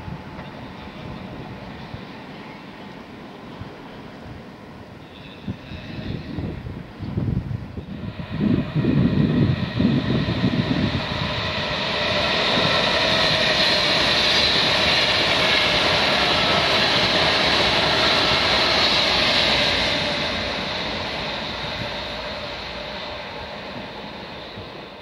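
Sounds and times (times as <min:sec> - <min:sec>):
electric train passing at speed: 0:00.0 - 0:25.0.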